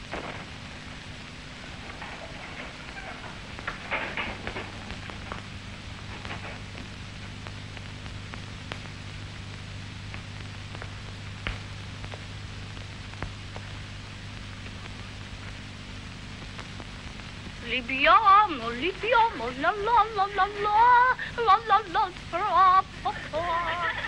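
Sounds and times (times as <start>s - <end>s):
faint crackles and clicks: 0.0s - 24.0s
film soundtrack hiss and hum: 0.0s - 24.0s.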